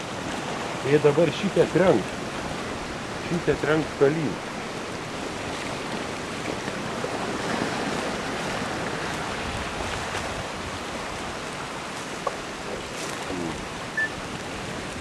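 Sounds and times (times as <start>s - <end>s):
river rushing with ice floes: 0.0s - 15.0s.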